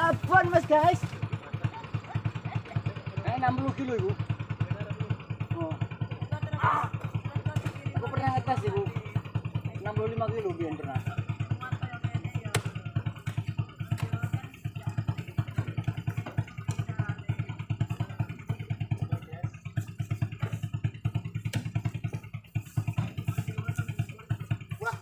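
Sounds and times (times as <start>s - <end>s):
motorcycle engine chugging: 0.0s - 25.0s.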